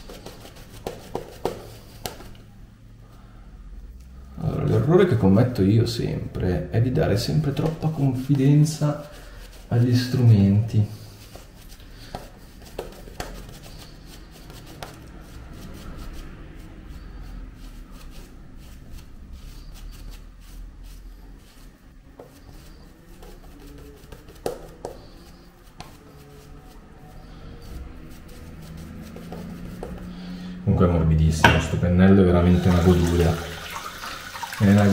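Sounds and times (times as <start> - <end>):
shaving brush scrubbing lather: 0.0 - 2.4, 6.9 - 30.6, 32.4 - 34.9.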